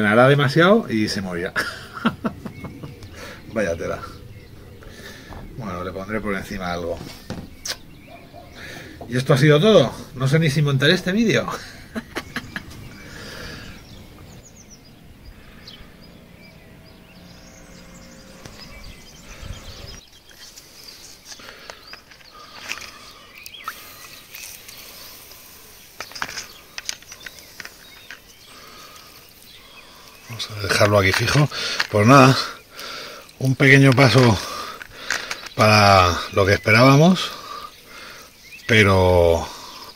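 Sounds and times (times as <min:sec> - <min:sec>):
faint bird chirps: 0:00.9 - 0:39.9.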